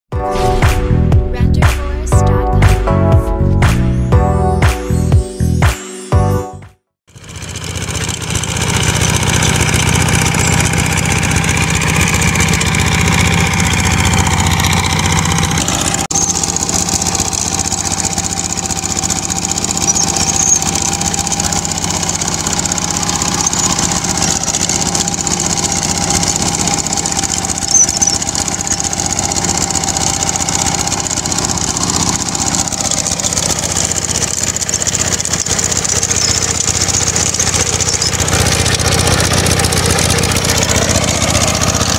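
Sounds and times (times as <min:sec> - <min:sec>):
diesel engine running: 0:07.1 - 0:41.9
tiller churning soil: 0:07.1 - 0:41.9.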